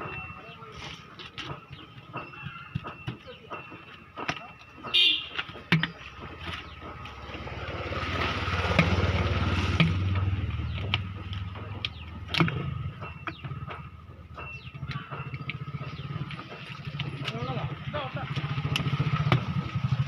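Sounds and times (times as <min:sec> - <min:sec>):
engine rumbling: 0:00.0 - 0:20.0.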